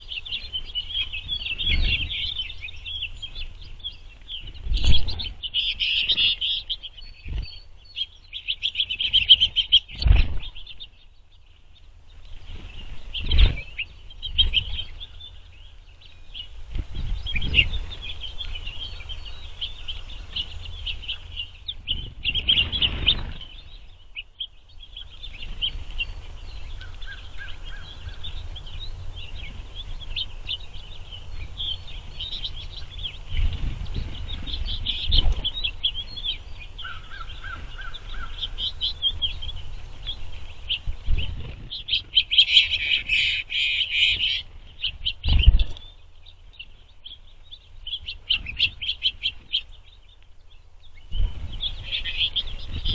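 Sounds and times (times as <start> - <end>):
finches twittering: 0.0 - 52.9.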